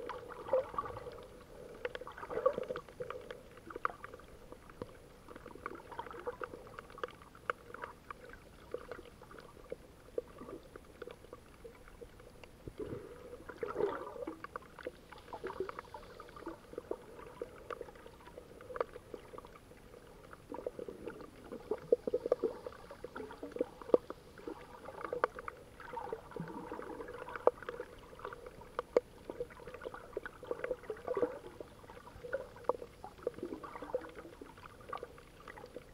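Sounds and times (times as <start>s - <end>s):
low watery rumble: 0.0s - 35.9s
underwater clicks and crackles: 0.0s - 35.9s.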